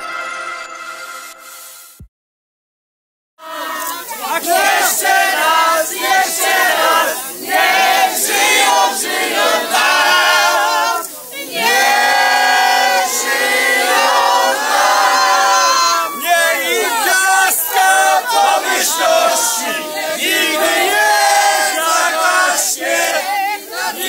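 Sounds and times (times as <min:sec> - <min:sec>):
crowd singing together: 0:03.4 - 0:24.0.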